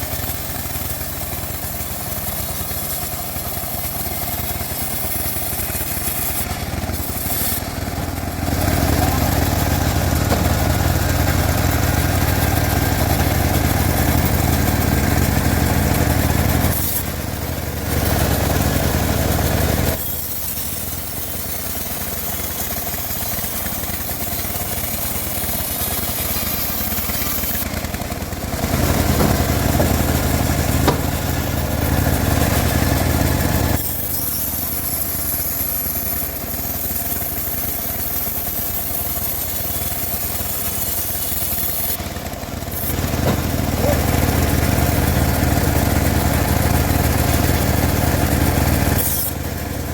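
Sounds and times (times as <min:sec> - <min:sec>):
band sawmill cutting log: 0:00.0 - 0:49.9.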